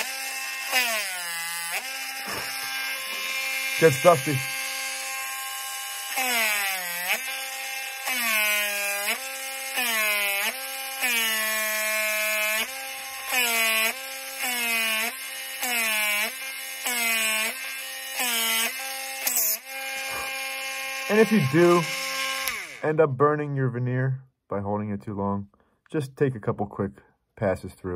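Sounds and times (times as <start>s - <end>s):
rotary tool motor whining: 0.0s - 22.9s
bit grinding into wood: 0.0s - 23.0s.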